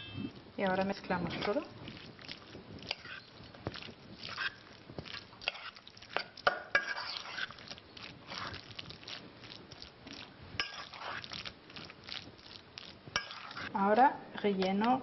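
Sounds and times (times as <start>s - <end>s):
soft stirring: 0.1s - 15.0s.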